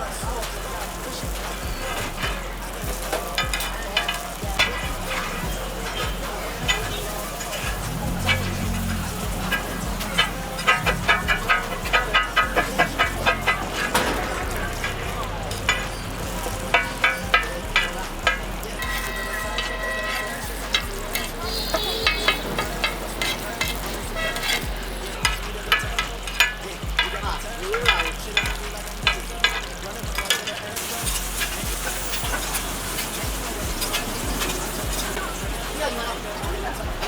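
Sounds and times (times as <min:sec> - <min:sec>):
metal spatula clinking on pan: 0:00.0 - 0:36.8
flatbread sizzling on griddle: 0:00.0 - 0:37.0.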